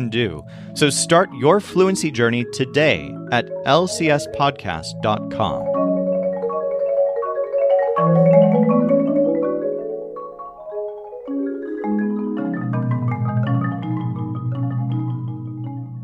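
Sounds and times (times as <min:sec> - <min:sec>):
low marimba bass notes: 0:00.0 - 0:16.0
marimba chords: 0:00.0 - 0:16.0.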